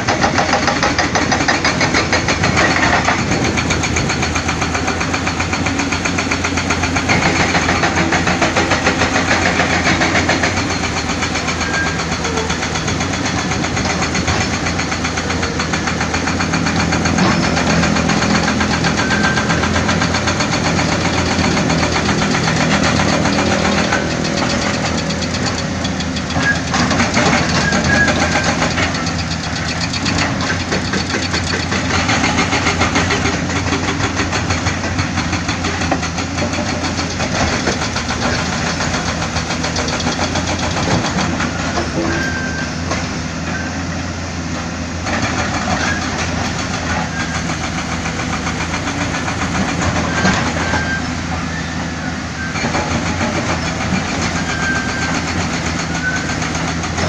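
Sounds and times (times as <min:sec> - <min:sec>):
diesel construction machinery running: 0:00.0 - 0:57.0.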